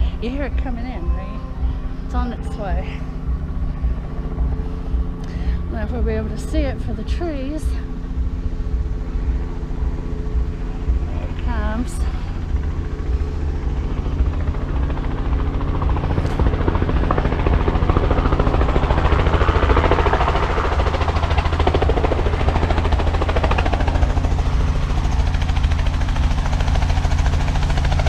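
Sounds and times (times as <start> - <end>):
helicopter rotor chop: 0.0 - 28.0.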